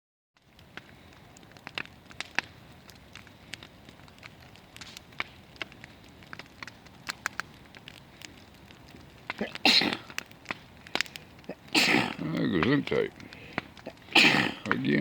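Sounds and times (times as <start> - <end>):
bonfire crackling and popping: 0.4 - 15.0.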